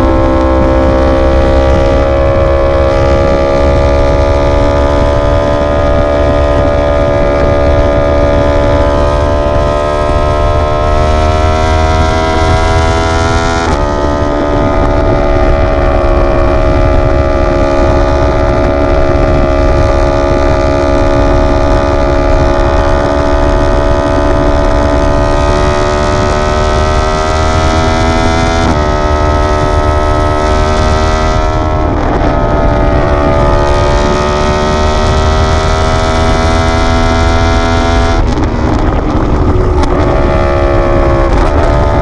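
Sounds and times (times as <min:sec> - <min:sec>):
motorcycle engine running: 0:00.0 - 0:42.0
wind rumble on microphone: 0:00.0 - 0:42.0.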